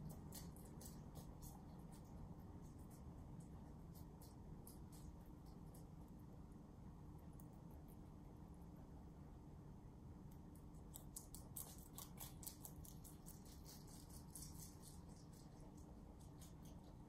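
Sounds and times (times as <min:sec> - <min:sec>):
rabbit chewing crisp crunches: 0:00.0 - 0:17.0.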